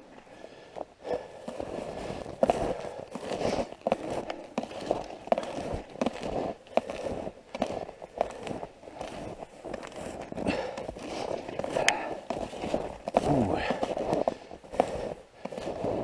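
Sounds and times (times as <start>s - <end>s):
footsteps crunching through snow: 0.0s - 16.0s.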